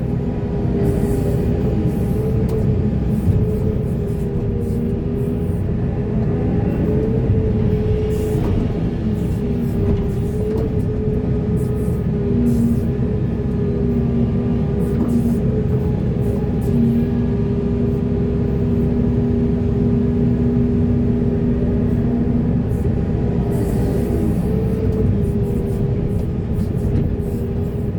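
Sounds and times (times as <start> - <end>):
diesel earthmoving machine running: 0.0 - 27.9.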